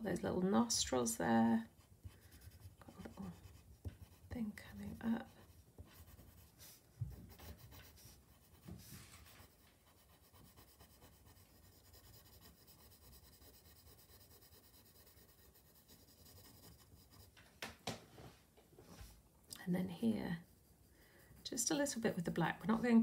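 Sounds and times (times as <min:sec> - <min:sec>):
pencil scratching on paper: 0:01.6 - 0:17.4, 0:19.9 - 0:23.0.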